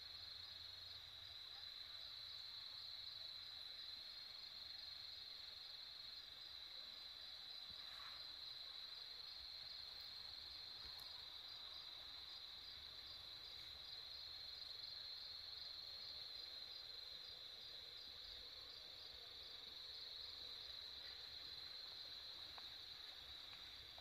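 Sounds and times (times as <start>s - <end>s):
insect chirp: 0.0s - 24.0s
insects chorus: 0.0s - 24.0s.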